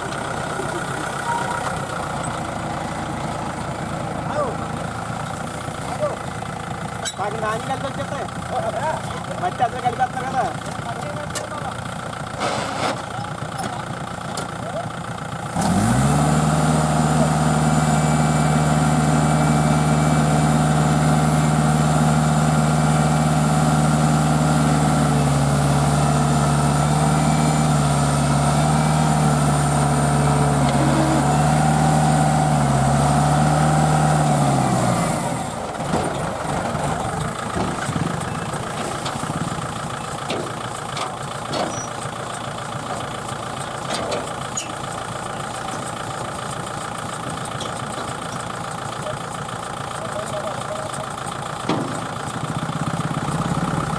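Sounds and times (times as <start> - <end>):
tractor engine revving: 0.0 - 53.9.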